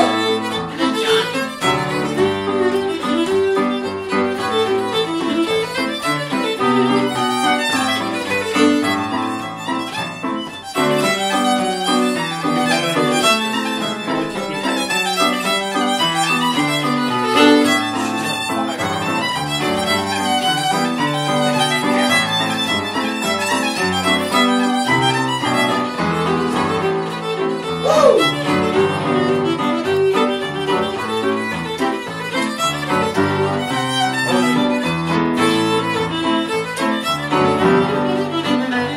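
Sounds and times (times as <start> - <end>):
fiddle-led folk tune: 0.0 - 38.9.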